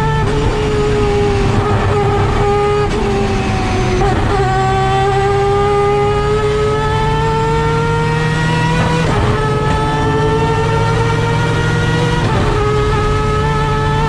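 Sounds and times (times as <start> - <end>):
rotary engine pulling hard: 0.0 - 14.0.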